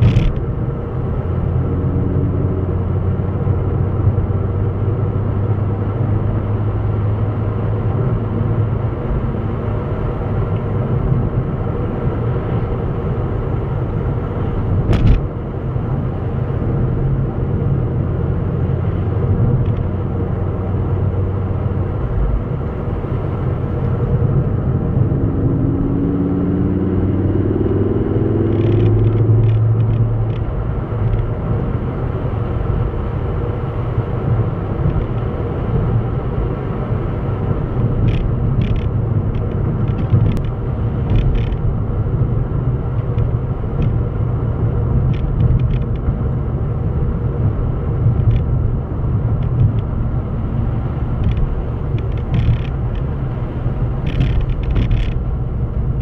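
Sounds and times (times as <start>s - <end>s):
car cabin engine rumble: 0.0s - 56.0s.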